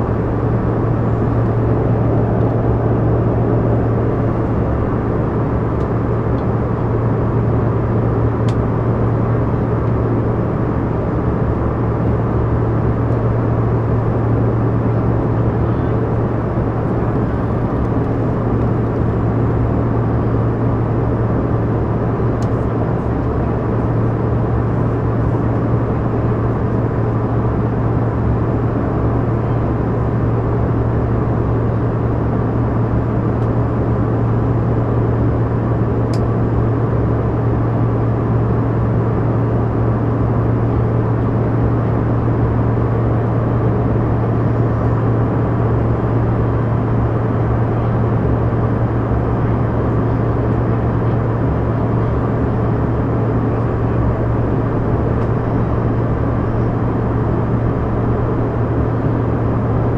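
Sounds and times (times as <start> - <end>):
jet engine cabin drone: 0.0 - 59.9.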